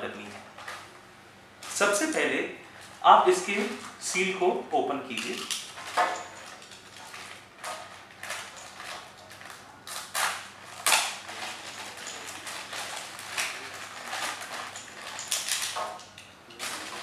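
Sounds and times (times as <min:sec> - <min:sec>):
plastic bag crinkling: 0:01.6 - 0:04.0, 0:05.1 - 0:17.0.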